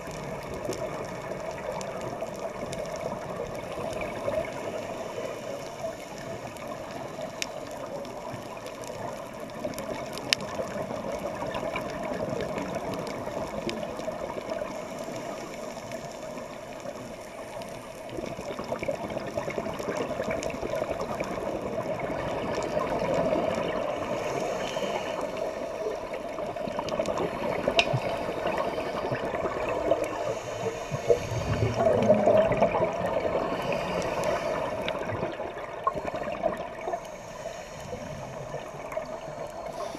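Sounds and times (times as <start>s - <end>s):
regulator bubbles gurgling: 0.0s - 39.9s
underwater hiss: 0.0s - 39.9s.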